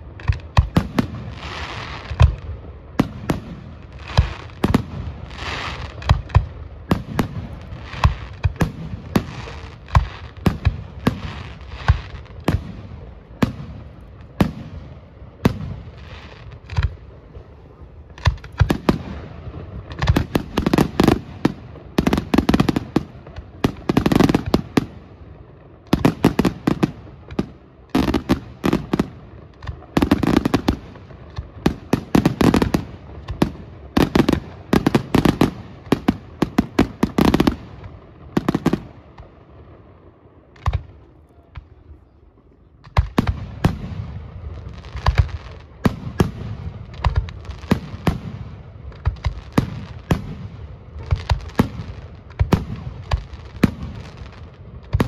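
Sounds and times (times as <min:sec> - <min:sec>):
fireworks bursting with bangs: 0:00.0 - 0:55.0
rapid crackling fireworks: 0:00.0 - 0:55.0.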